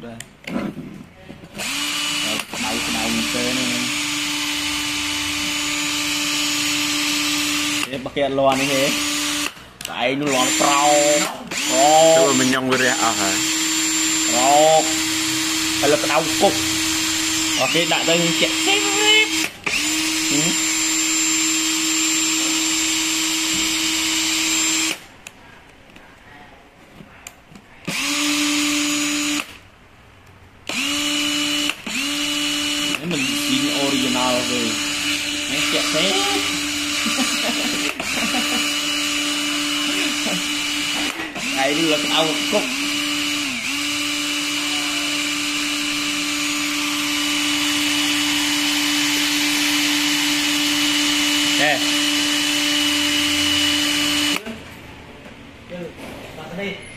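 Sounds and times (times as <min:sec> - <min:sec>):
cordless drill motor whine: 0:01.6 - 0:09.6, 0:10.2 - 0:25.1, 0:27.9 - 0:29.6, 0:30.7 - 0:54.5.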